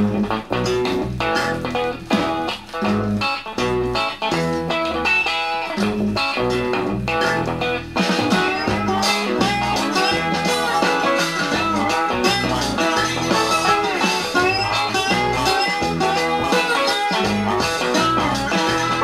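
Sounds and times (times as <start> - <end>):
blues-rock electric guitar: 0.0 - 19.0
steady bass line: 0.0 - 19.0.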